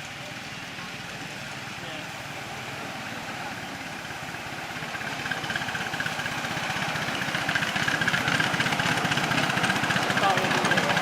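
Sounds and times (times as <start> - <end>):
miniature train running: 0.0 - 11.0.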